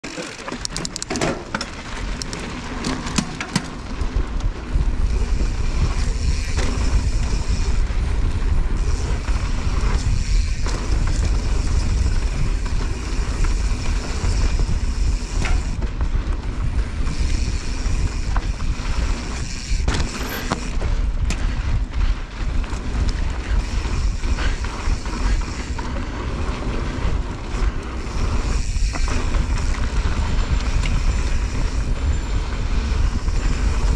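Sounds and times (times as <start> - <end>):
bike rattling and clicking: 0.0 - 33.9
tyre noise on dirt: 0.0 - 33.9
wind buffeting microphone: 3.8 - 33.9.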